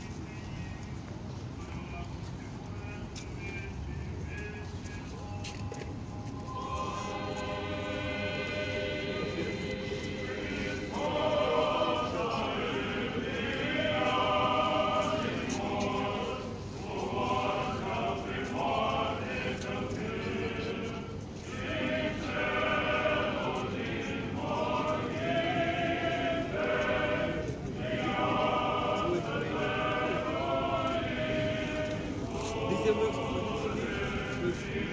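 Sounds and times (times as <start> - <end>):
church choir chanting: 4.6 - 34.9.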